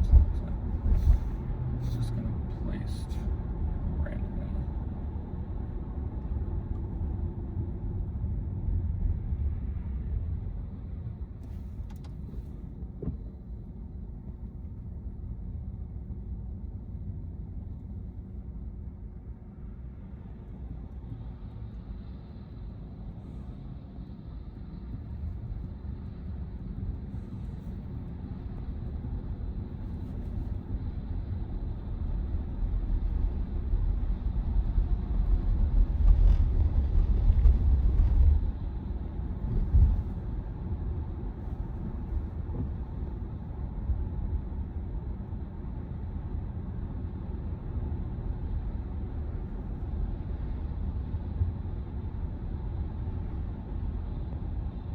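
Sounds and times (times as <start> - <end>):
road and tyre rumble: 0.0 - 54.9.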